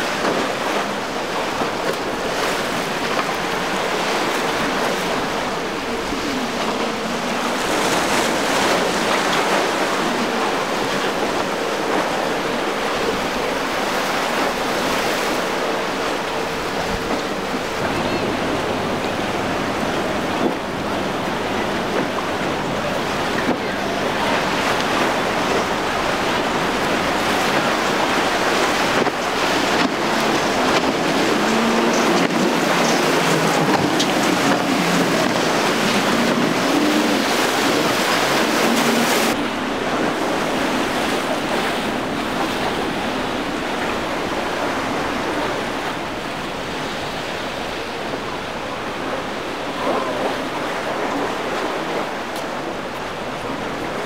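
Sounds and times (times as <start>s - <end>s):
outboard motor running: 0.0s - 54.0s
rushing waves: 0.0s - 54.0s.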